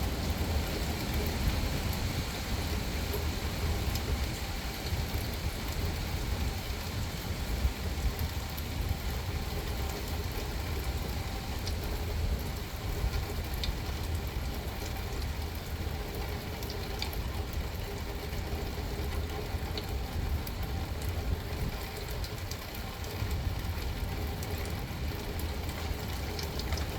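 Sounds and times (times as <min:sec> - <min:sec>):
rain falling on a car: 0:00.0 - 0:26.9.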